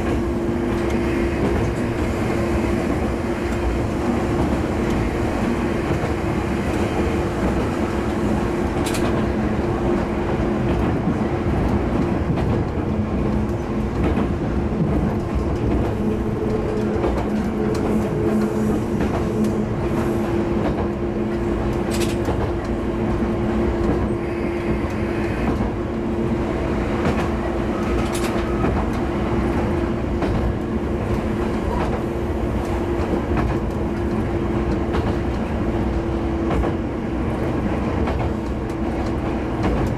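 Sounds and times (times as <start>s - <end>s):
sharp clicks over rails: 0.0s - 25.8s, 26.4s - 39.9s
diesel railcar engine drone: 0.0s - 39.9s
train wheel rumble: 0.0s - 39.9s.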